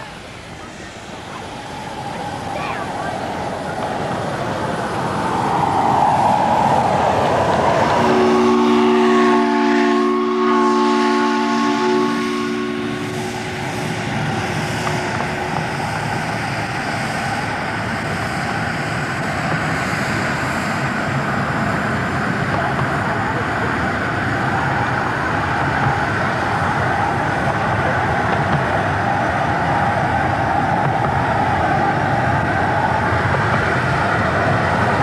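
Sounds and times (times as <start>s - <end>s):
steam hissing: 0.0s - 35.0s.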